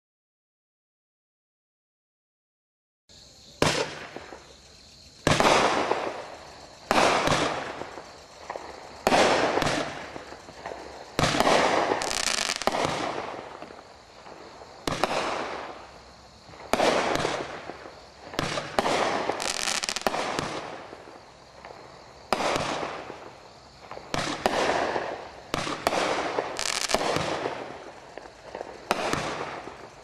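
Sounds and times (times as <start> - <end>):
firework cake firing sharp bangs: 3.5 - 30.0.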